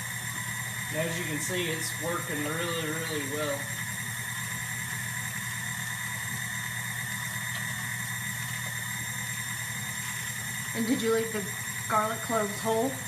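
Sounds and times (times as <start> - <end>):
mixer motor humming: 0.0 - 13.0.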